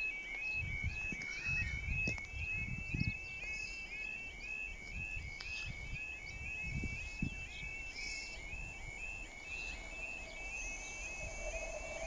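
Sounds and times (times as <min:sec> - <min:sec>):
crossing alarm electronic yelp: 0:00.0 - 0:12.0
wind buffeting microphone: 0:00.5 - 0:12.0.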